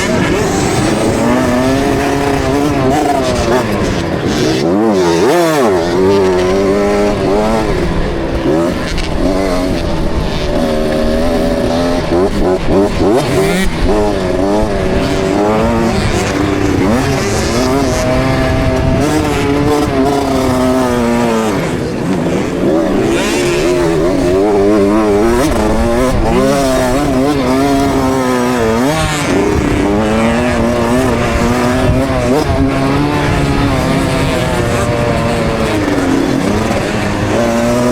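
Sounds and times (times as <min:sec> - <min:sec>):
motocross engine revving: 0:00.0 - 0:37.9
wind noise: 0:00.0 - 0:37.9.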